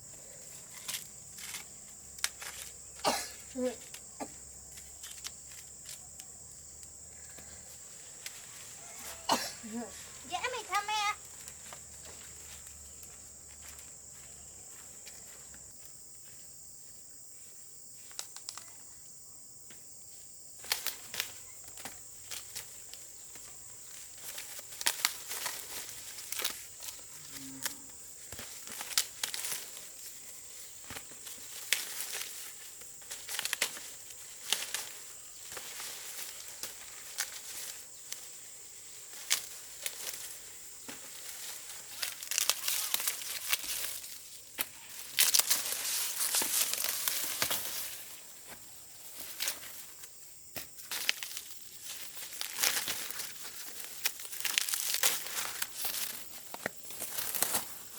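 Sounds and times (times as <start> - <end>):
dry plants rustling and crackling: 0.0 - 16.4, 20.5 - 57.9.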